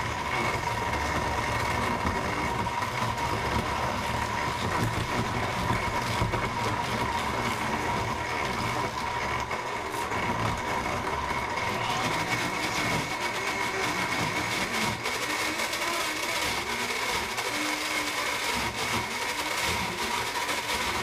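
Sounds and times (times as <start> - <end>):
blender motor whine: 0.0 - 21.0.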